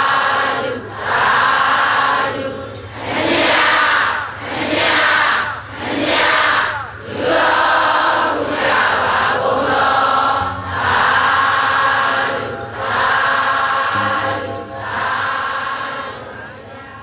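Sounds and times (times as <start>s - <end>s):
congregation chanting in unison: 0.0s - 17.0s.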